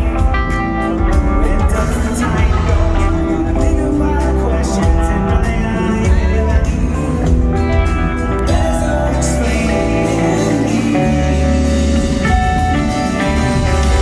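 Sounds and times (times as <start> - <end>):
live rock band instrumental: 0.0 - 14.0.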